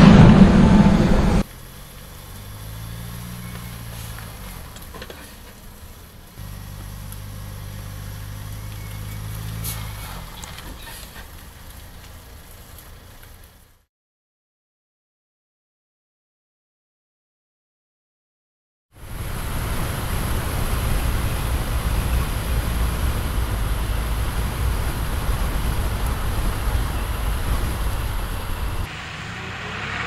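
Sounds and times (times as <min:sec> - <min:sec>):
loud burst of vehicle noise: 0:00.0 - 0:13.8, 0:19.0 - 0:30.0
truck engine humming: 0:00.0 - 0:13.9, 0:19.0 - 0:30.0.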